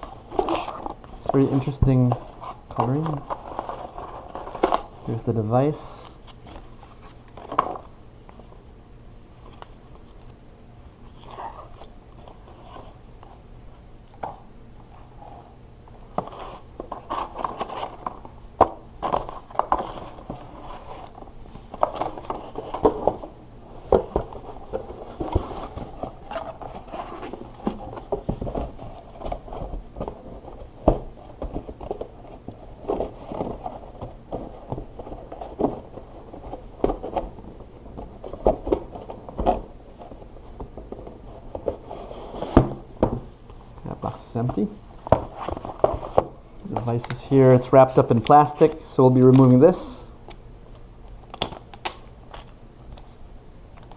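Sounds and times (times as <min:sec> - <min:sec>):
cardboard packaging rustling: 0:00.0 - 0:08.6, 0:15.0 - 0:50.0.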